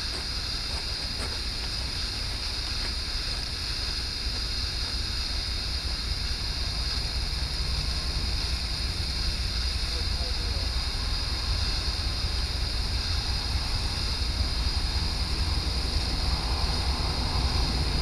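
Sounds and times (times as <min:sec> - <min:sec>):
distant diesel train rumble: 0:00.0 - 0:18.0
wind buffeting microphone: 0:00.0 - 0:18.0.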